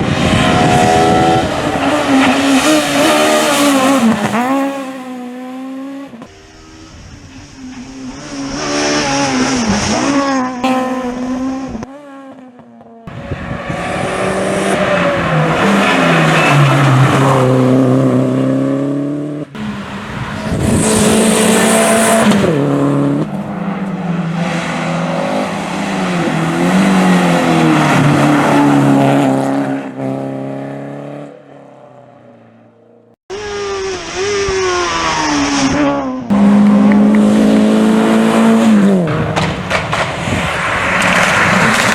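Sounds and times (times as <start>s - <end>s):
rally car engines revving: 0.0s - 32.7s, 33.3s - 41.9s.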